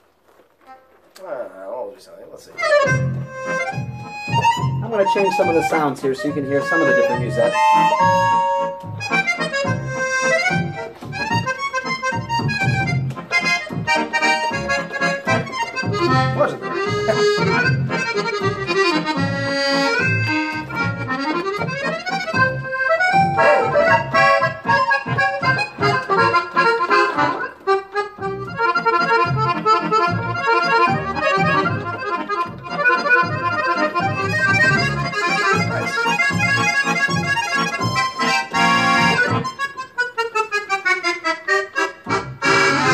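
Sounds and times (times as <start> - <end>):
accordion melody: 0.0 - 42.9.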